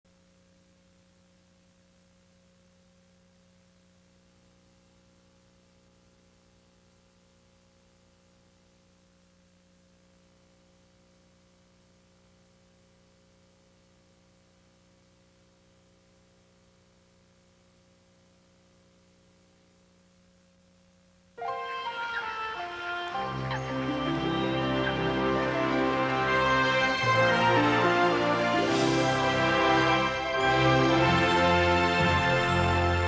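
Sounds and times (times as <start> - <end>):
tape hiss: 0.0 - 33.0
faint electrical hum: 0.1 - 33.0.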